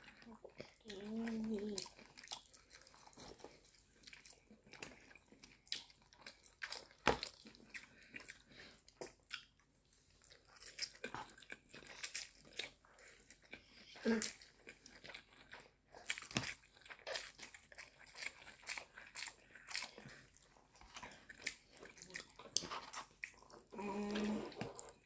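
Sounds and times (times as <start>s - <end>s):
person chewing noodles: 0.0s - 25.0s.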